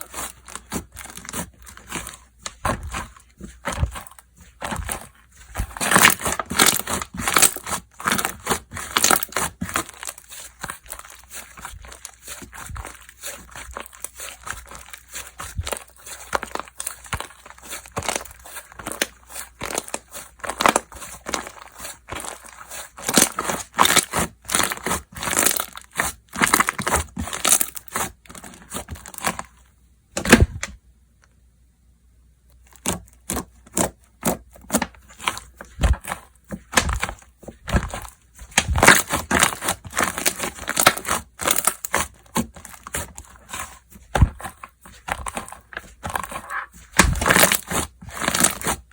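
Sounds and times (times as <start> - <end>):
slime squished by hand: 0.0 - 29.5, 32.7 - 48.9.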